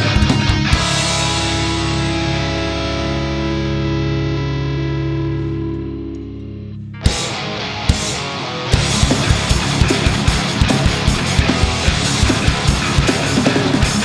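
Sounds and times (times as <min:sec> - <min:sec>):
distorted electric guitar chord ringing: 0:00.0 - 0:14.0.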